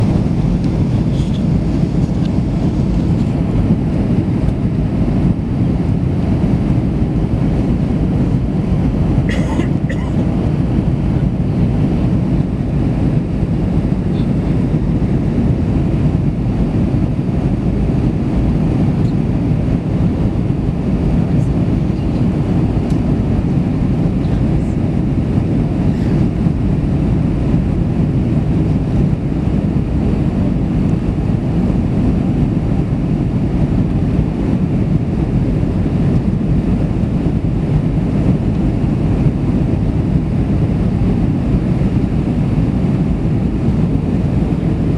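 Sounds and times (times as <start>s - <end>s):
airplane jet engine rumble: 0.0s - 44.9s.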